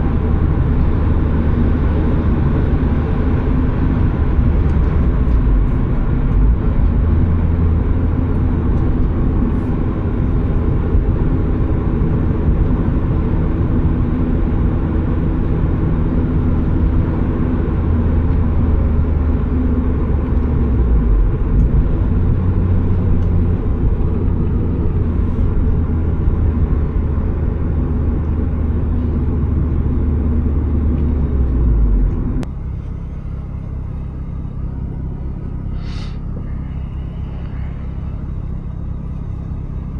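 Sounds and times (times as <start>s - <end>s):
car engine droning while driving: 0.0s - 39.9s.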